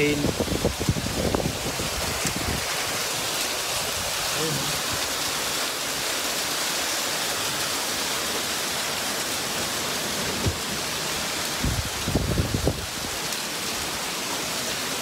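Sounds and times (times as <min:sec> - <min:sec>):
heavy rain and hail: 0:00.0 - 0:15.0.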